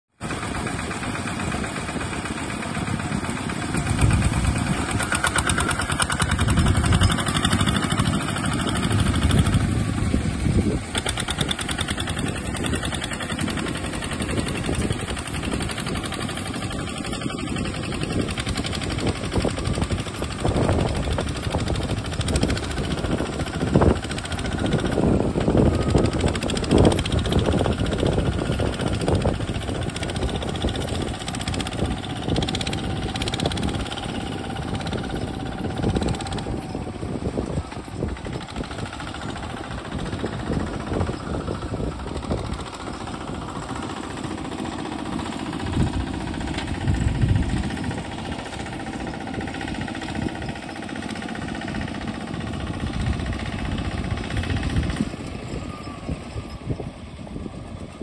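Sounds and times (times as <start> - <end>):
diesel tractor engine under load: 0.1 - 58.0.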